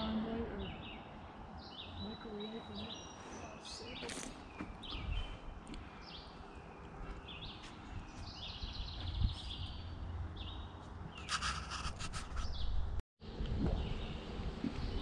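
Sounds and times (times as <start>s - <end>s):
songbirds singing: 0.0s - 12.8s.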